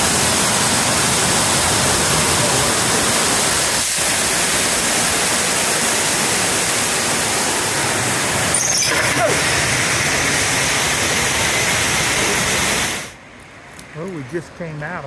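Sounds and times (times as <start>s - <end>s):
waterfall rushing in a cave: 0.0s - 13.2s.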